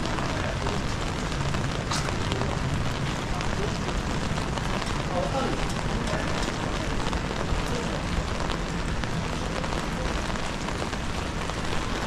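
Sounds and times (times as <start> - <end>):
rain on an umbrella: 0.0 - 12.0.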